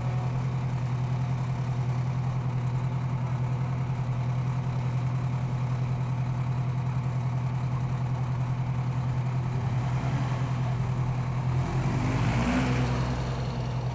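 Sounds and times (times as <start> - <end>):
truck engine idling: 0.0 - 12.0, 12.9 - 13.9.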